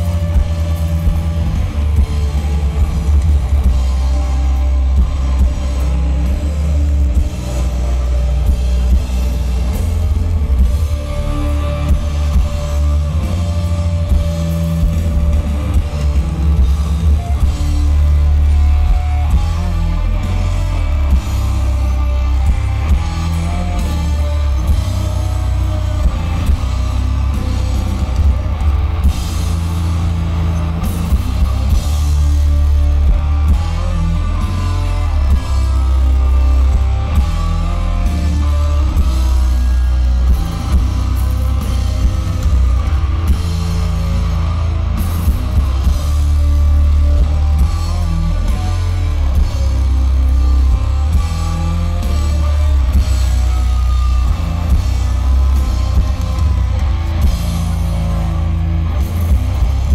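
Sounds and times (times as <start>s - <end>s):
live metal band playing: 0.0s - 59.9s.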